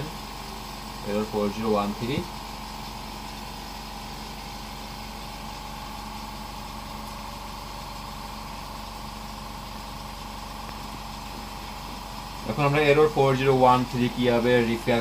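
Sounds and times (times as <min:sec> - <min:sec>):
machine humming with high whine: 0:00.0 - 0:15.0.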